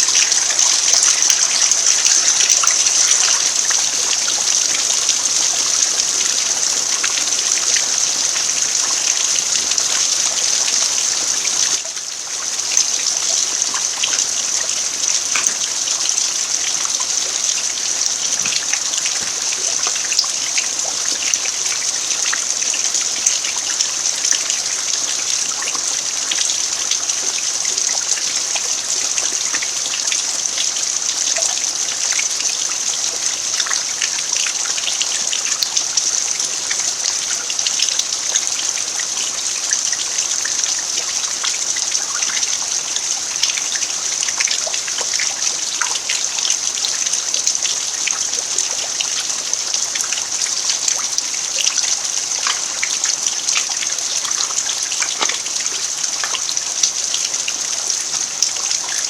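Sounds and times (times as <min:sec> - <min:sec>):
raindrops pattering: 0:00.0 - 0:59.0
steady rain hissing: 0:00.0 - 0:59.0.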